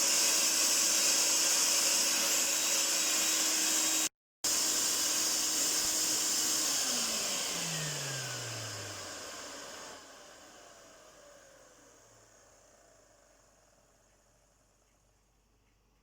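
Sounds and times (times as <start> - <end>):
vacuum cleaner winding down: 0.0 - 14.4.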